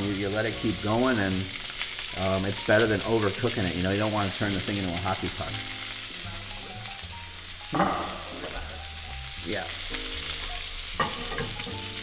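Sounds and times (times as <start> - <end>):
steaks sizzling on a griddle: 0.0 - 12.0.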